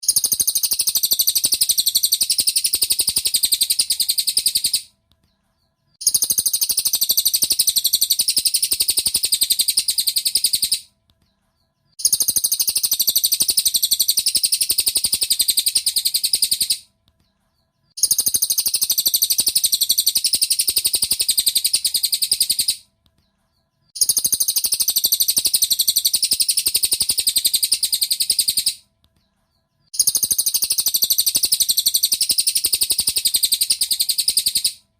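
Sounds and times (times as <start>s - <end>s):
bird rattling trill: 0.0s - 4.9s, 6.0s - 10.9s, 12.0s - 16.8s, 18.0s - 22.8s, 24.0s - 28.8s, 30.0s - 34.8s.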